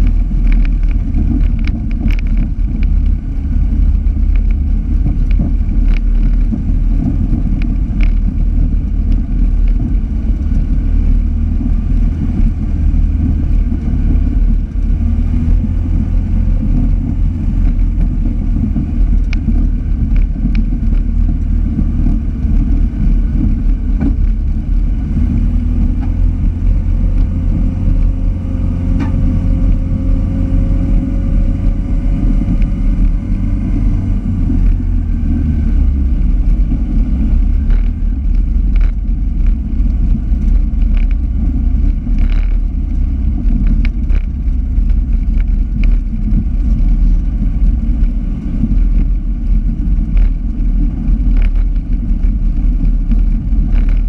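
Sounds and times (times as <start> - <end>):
racing car engine drone: 0.0 - 54.0.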